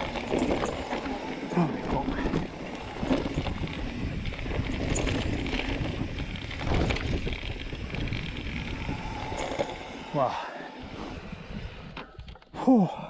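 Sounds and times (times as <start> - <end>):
wind buffeting microphone: 0.0 - 10.2, 10.8 - 12.3
mountain bike tyres rolling and rattling: 0.0 - 12.6.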